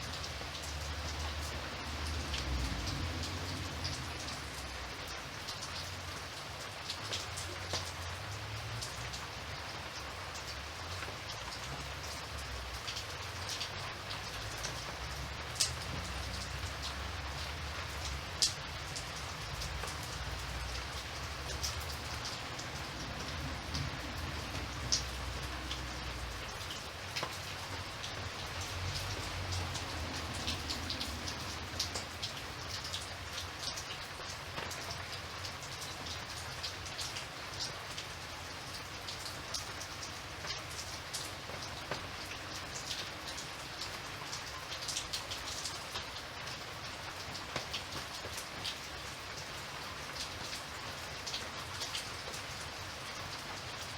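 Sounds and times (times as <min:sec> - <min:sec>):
raindrops ticking: 0:00.0 - 0:53.9
steady rain: 0:00.0 - 0:53.9.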